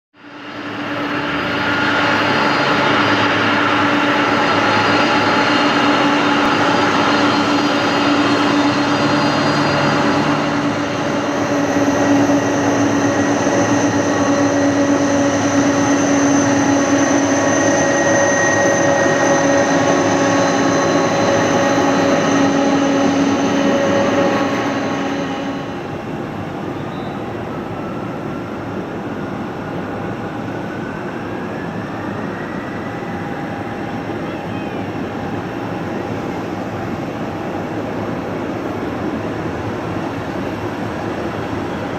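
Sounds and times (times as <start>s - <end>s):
jet engines running: 0.2s - 41.9s.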